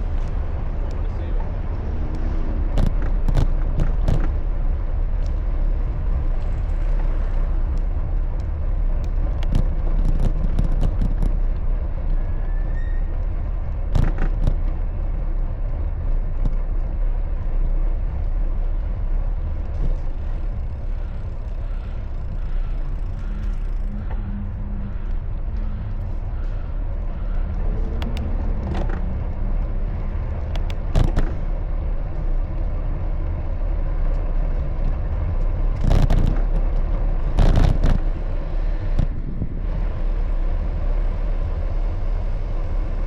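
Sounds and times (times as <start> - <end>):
bicycle clicks and rattles: 0.0 - 43.0
road and wind noise: 0.0 - 43.0.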